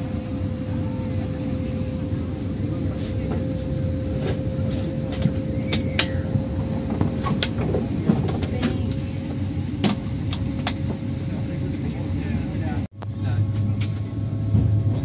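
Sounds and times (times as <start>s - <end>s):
low cabin rumble: 0.0s - 15.0s.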